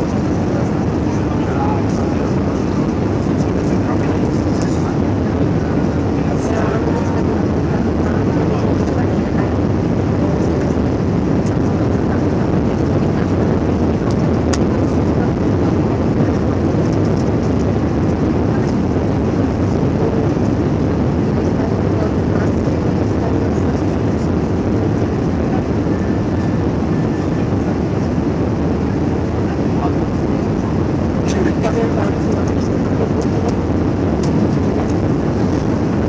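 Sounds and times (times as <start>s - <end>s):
airplane cabin engine rush: 0.0s - 36.0s.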